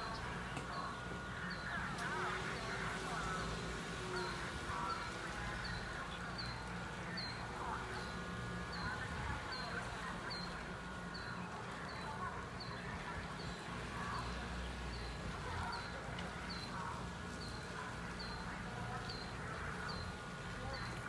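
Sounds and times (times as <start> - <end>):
faint outdoor background noise: 0.0 - 21.0.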